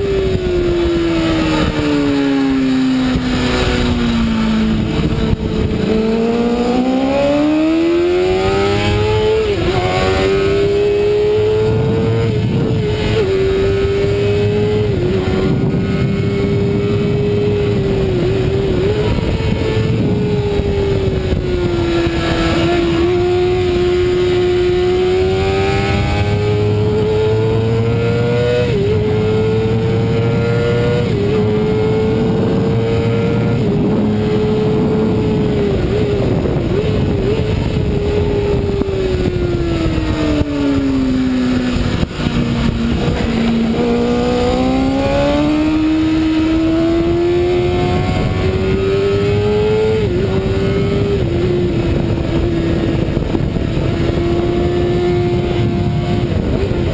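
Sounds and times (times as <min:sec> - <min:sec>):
motorcycle engine at full throttle: 0:00.0 - 0:56.9
wind rush: 0:00.0 - 0:56.9.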